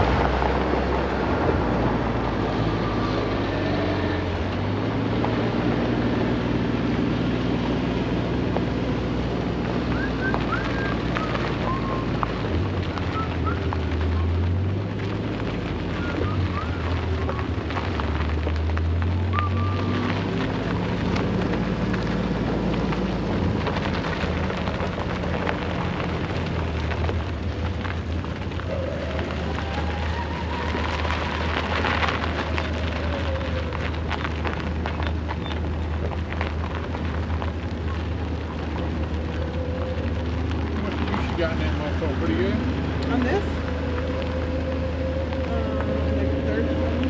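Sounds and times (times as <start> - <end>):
tyres crackling on gravel: 0.0 - 47.0
vehicle engine drone: 0.0 - 47.0.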